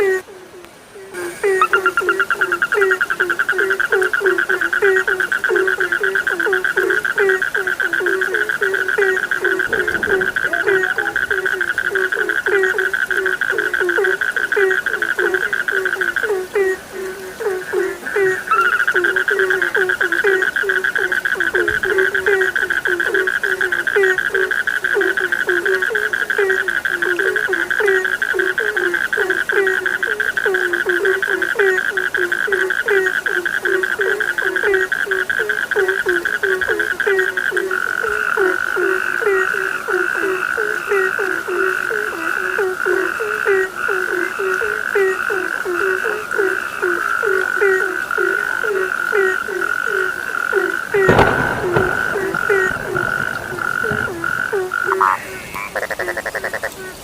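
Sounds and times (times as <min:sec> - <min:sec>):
frogs croaking: 0:00.0 - 0:57.0.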